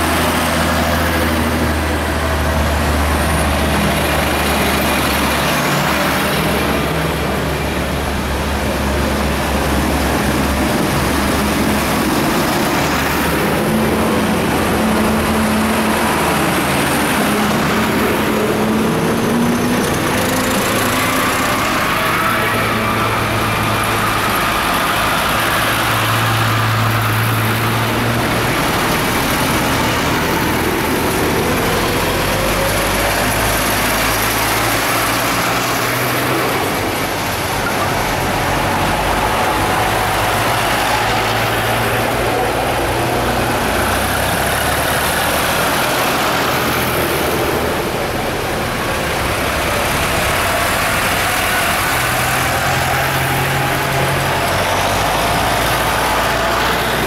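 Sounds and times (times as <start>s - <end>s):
tractor diesel engines passing: 0.0s - 57.0s.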